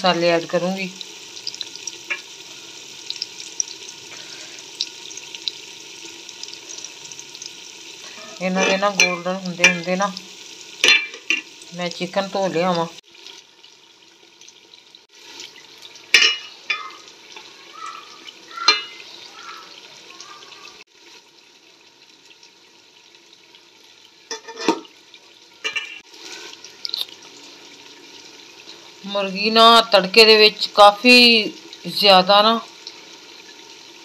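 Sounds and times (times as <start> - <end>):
chicken frying in oil: 0.0 - 34.0.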